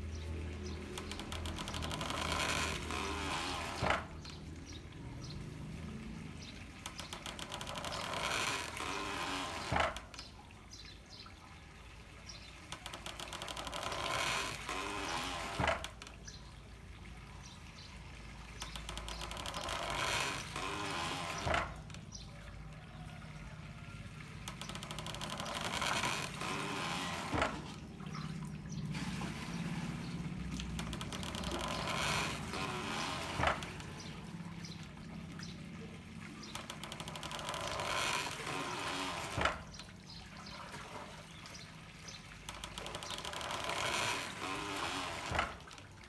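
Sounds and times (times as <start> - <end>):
water pouring: 0.0 - 46.0
water trickling from pipes: 0.0 - 46.0.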